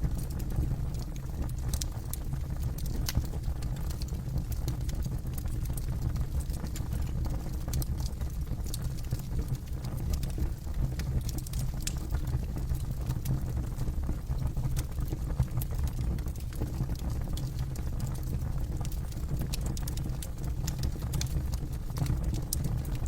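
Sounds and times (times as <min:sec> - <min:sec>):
campfire flames rumbling: 0:00.0 - 0:23.0
burning wood crackling: 0:00.1 - 0:12.0, 0:15.0 - 0:23.0.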